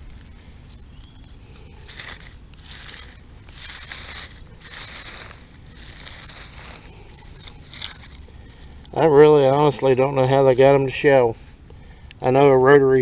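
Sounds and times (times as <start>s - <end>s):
footsteps crunching on dry leaves: 0.0s - 10.7s.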